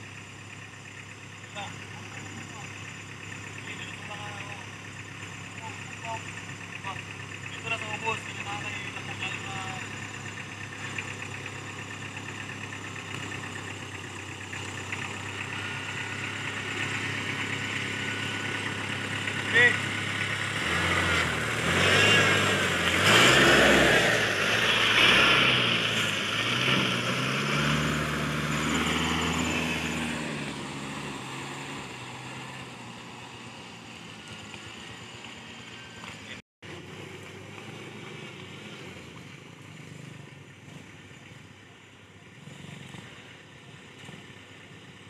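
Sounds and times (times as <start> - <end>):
diesel engine revving: 0.0 - 45.0.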